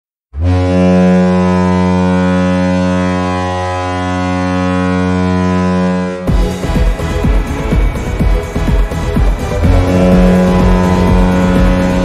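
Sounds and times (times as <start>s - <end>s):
deep goal horn blast: 0.3s - 12.0s.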